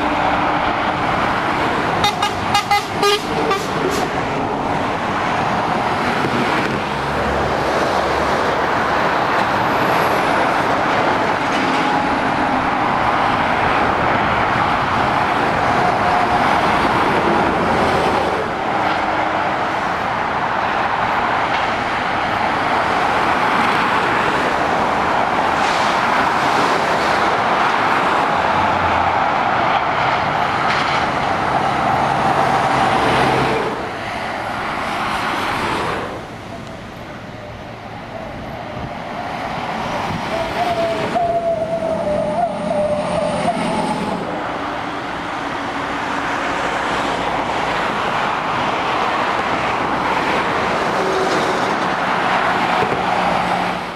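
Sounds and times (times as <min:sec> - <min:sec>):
lorry diesel engines: 0:00.0 - 0:53.9
tyre noise of traffic: 0:00.0 - 0:53.9.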